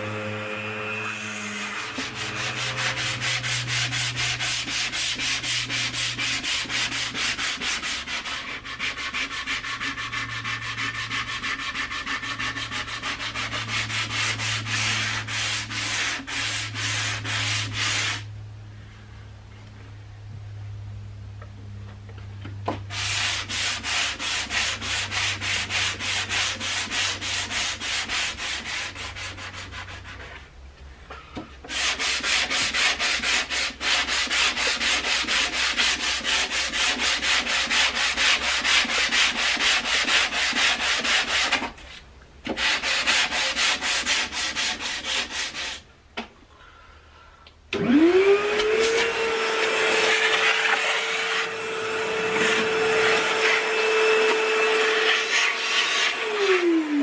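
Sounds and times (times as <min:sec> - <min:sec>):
hand sanding wood: 0:00.0 - 0:18.3, 0:22.7 - 0:30.6, 0:31.6 - 0:45.9, 0:48.0 - 0:57.0.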